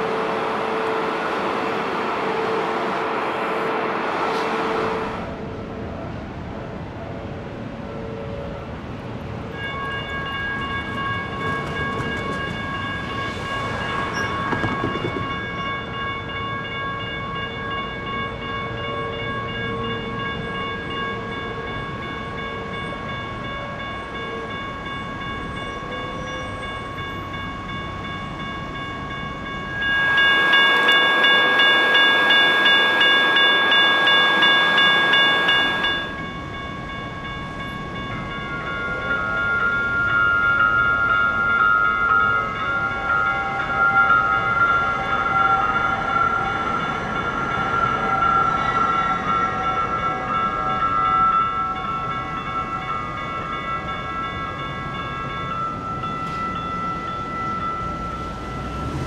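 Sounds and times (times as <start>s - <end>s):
railroad crossing bells ringing: 0.0s - 59.0s.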